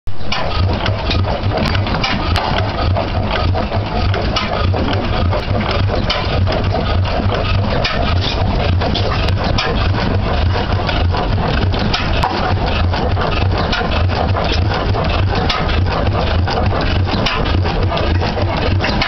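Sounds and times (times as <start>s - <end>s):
sharp mechanical clicks: 0.1s - 19.0s
stationary engine running: 0.1s - 19.0s.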